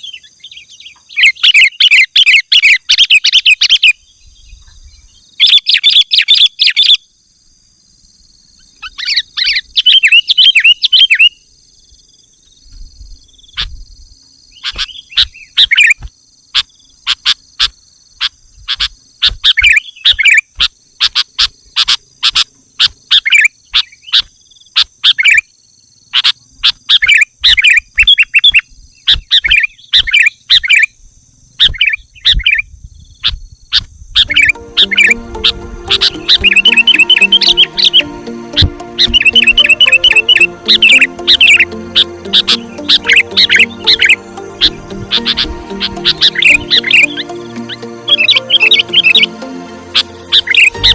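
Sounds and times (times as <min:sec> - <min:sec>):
bulbul chirping song: 0:00.0 - 0:07.2, 0:08.4 - 0:31.0, 0:31.6 - 0:50.9.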